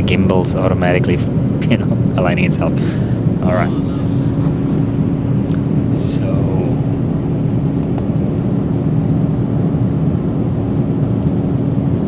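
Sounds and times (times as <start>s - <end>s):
airplane cabin rumble: 0.0s - 12.0s
steady hum: 0.0s - 12.0s.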